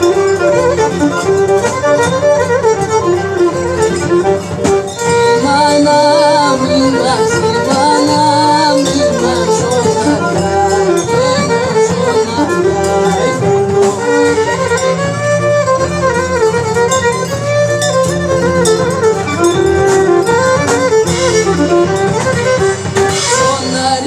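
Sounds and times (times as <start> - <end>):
folk dance music: 0.0 - 24.0.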